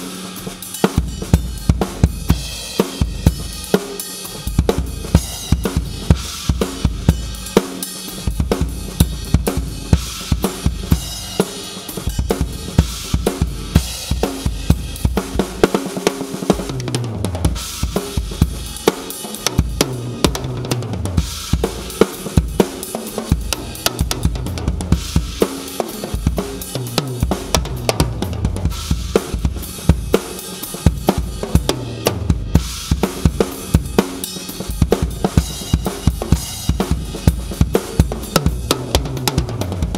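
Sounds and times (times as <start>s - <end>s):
acoustic drum kit groove: 0.0s - 39.9s
tom drum fills: 0.0s - 39.9s.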